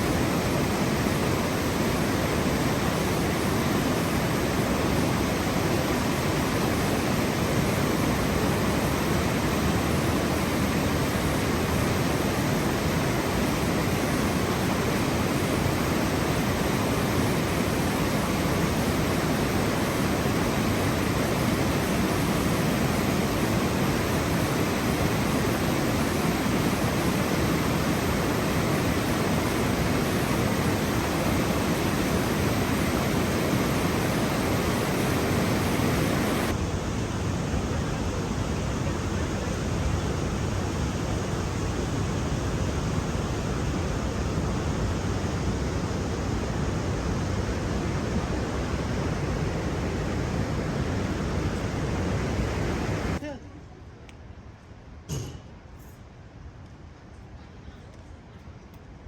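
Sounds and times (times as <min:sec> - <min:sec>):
flowing water rushing: 0:00.0 - 0:36.6, 0:38.5 - 0:53.2.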